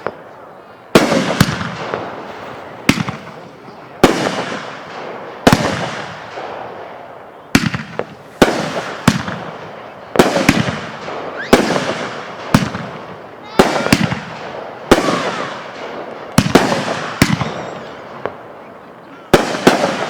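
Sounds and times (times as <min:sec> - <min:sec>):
fireworks bursting with echo: 0:00.0 - 0:20.0.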